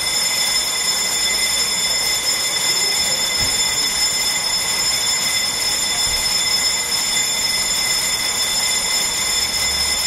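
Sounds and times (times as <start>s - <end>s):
electric railcar running: 0.0s - 10.0s
high whining tones: 0.0s - 10.0s.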